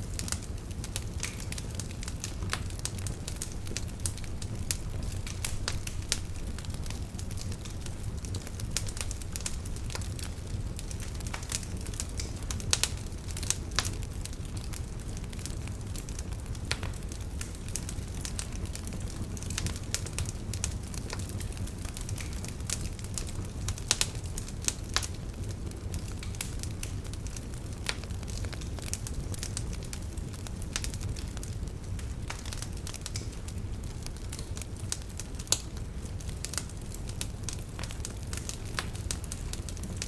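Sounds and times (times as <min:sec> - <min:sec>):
log fire crackling: 0:00.0 - 0:40.0.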